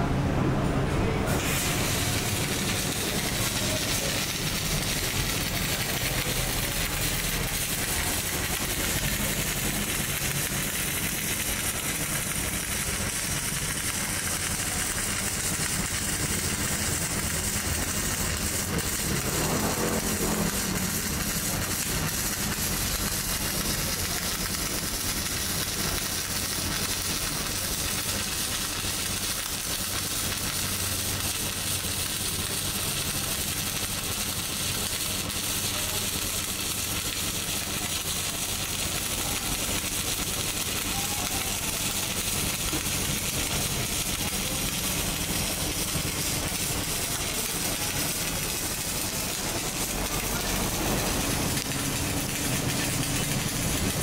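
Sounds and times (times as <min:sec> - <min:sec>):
welding arc crackling: 0:01.0 - 0:54.0.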